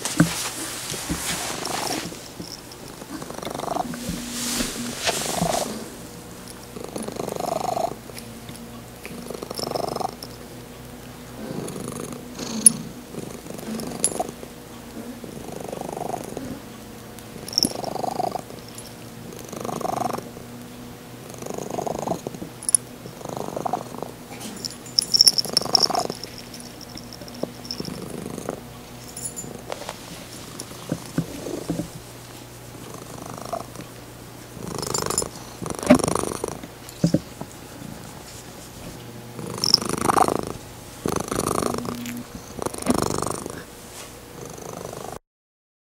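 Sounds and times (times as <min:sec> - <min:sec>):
cat purring: 0:00.0 - 0:10.4, 0:11.3 - 0:16.8, 0:17.4 - 0:20.5, 0:21.2 - 0:33.9, 0:34.6 - 0:38.3, 0:39.4 - 0:43.6, 0:44.3 - 0:45.2.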